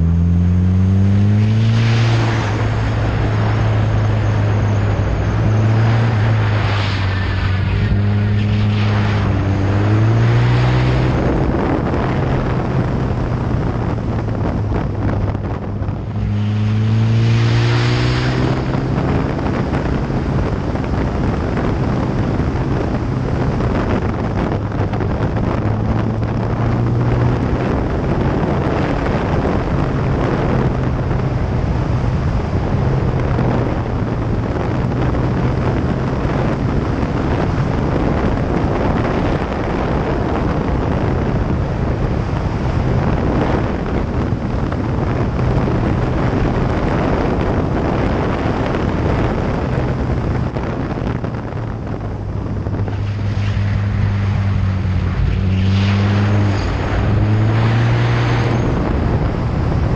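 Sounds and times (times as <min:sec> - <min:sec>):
heavy wind rush on microphone: 0:00.0 - 0:59.9
motorcycle engine hum: 0:00.0 - 0:59.9.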